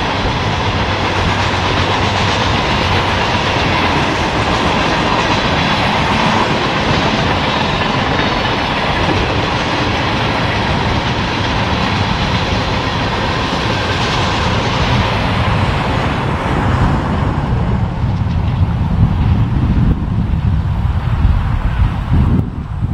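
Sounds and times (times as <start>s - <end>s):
wheels clacking over rail joints: 0.0s - 19.5s
freight train cars rolling past: 0.0s - 22.9s.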